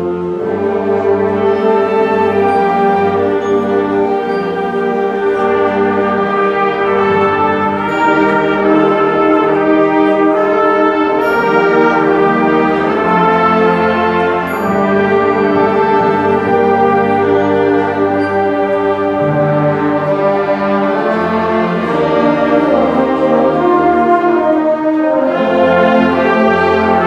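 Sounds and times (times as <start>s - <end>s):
brass ensemble playing chords: 0.0s - 27.0s.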